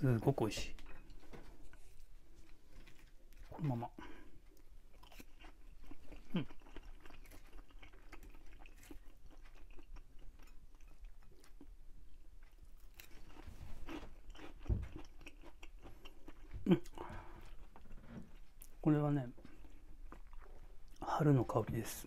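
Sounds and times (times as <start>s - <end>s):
chewing crunchy fried food: 0.8s - 21.5s.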